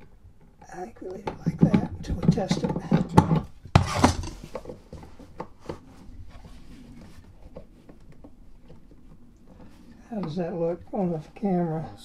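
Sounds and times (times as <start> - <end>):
faint clicks and rubbing: 0.0 - 12.0.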